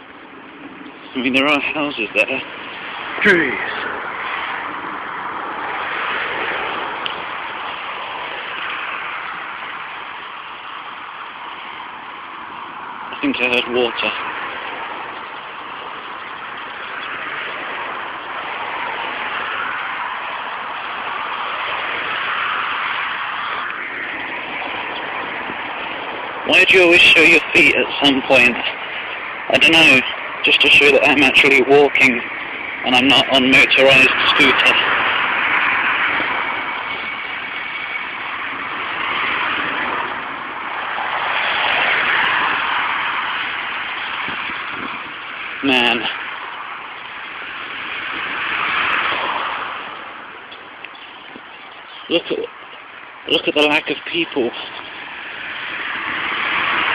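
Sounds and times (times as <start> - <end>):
road traffic passing: 0.0 - 56.9
steady rushing noise: 0.0 - 56.9.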